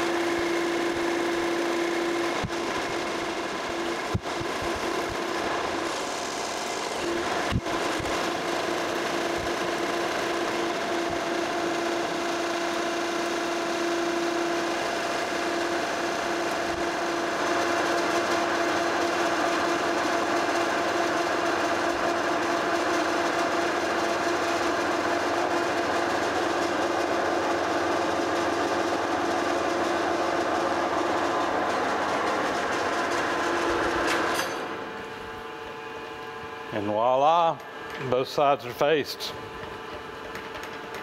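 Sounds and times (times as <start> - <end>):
lathe spindle hum: 0.0 - 41.0.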